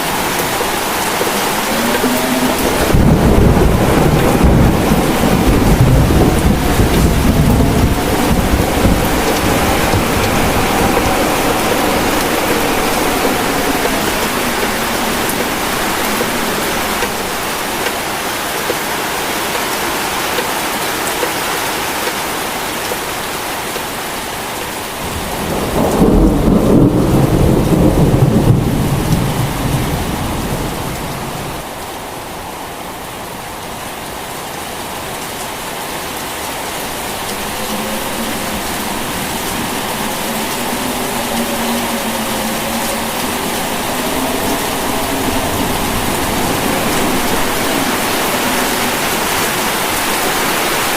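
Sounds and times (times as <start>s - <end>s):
thunder rumbling: 0.0s - 20.6s, 24.9s - 31.6s, 36.8s - 50.9s
heavy rain: 0.0s - 50.9s.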